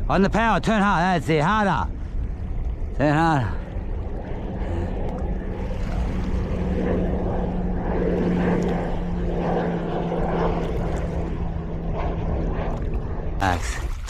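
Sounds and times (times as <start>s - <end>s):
low drone: 1.8s - 14.0s.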